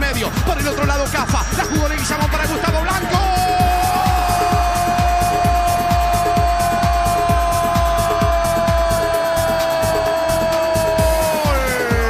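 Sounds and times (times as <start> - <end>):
kick-drum beat: 0.0 - 12.0.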